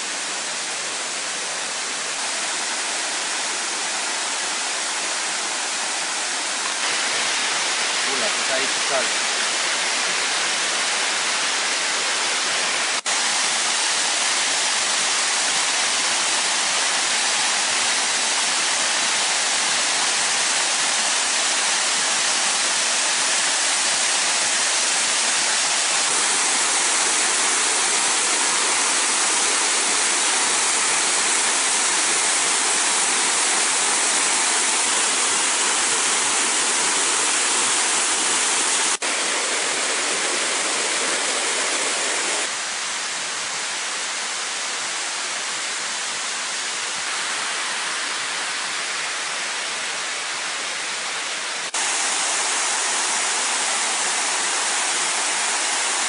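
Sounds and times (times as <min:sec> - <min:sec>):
stream water rushing over rocks: 0:00.0 - 0:56.0.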